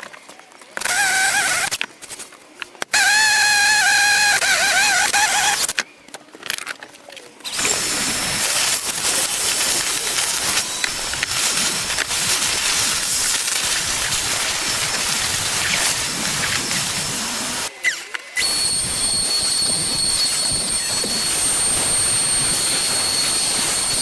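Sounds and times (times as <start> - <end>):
electric drill motor whine: 3.0 - 5.7, 7.5 - 24.0
hissy power tool cutting noise: 3.0 - 5.7, 7.5 - 24.0.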